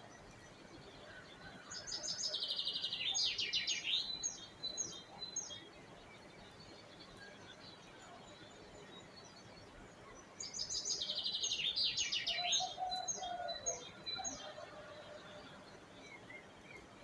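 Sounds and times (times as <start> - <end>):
faint background bird chirping: 0.0 - 17.0
songbirds singing: 0.0 - 17.0
bird chirps: 1.7 - 17.0.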